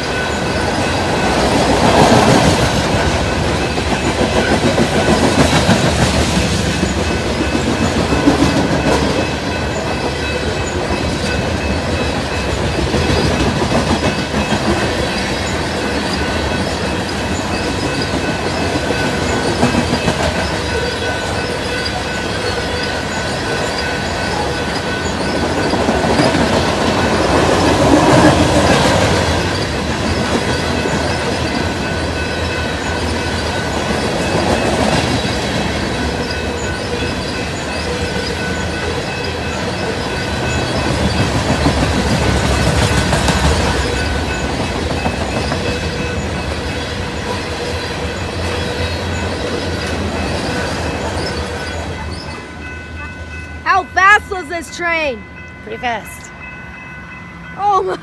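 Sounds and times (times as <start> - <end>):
clickety-clack over rail joints: 0.0 - 52.5
train wheels rumbling: 0.0 - 58.0.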